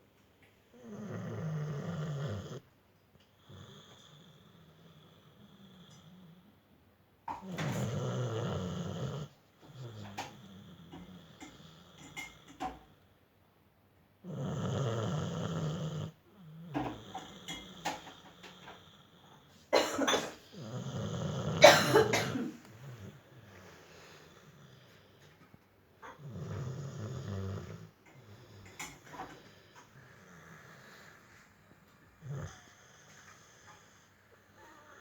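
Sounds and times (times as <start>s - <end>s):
dog snoring: 0.7s - 2.7s, 3.4s - 6.6s, 7.3s - 13.1s, 14.2s - 35.0s.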